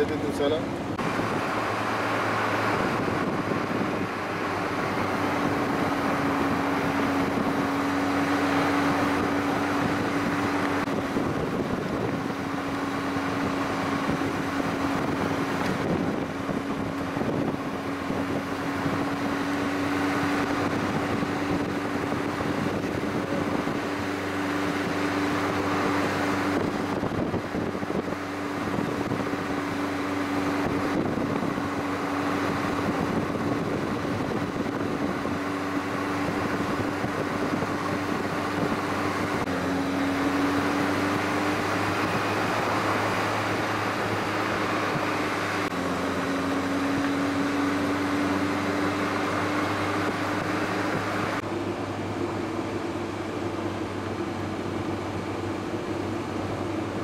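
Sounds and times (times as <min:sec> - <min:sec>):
car engine hum: 0:00.0 - 0:57.0
tyre and road noise: 0:00.0 - 0:57.0.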